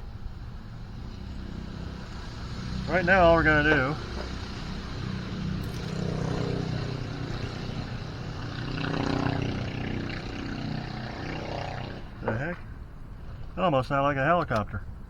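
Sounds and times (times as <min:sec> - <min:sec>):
engine droning hum: 0:00.0 - 0:15.0.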